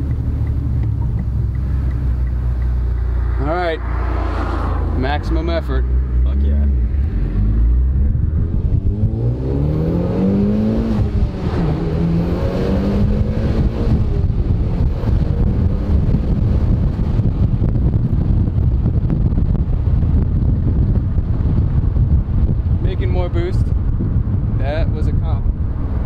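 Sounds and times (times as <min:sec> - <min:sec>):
car engine accelerating hard: 0:00.0 - 0:22.8
road and wind noise: 0:00.0 - 0:26.0.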